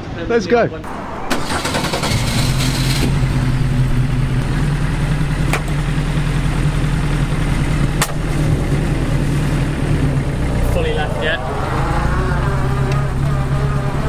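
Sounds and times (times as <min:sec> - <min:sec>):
car engine idling: 0:00.9 - 0:14.0.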